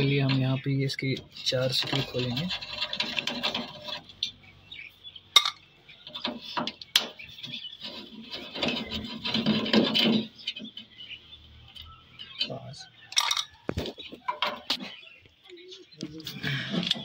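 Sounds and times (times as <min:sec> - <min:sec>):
metal rattling and rubbing: 0:00.0 - 0:15.1.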